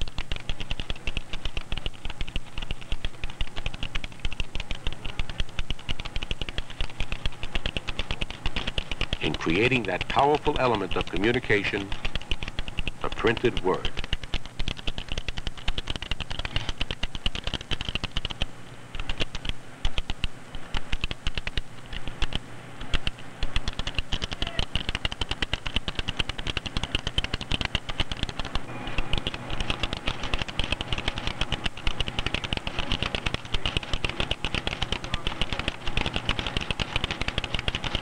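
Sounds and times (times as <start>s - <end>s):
steady low machine hum: 0.0s - 38.0s
typesetting machine keys clattering: 0.0s - 38.0s.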